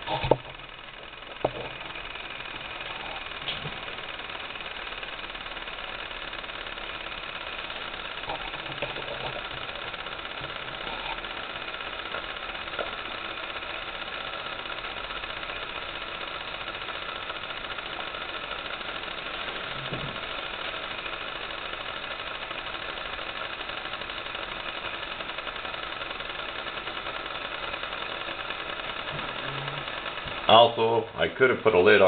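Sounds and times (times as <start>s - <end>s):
mechanical hum and whir: 0.0s - 32.0s.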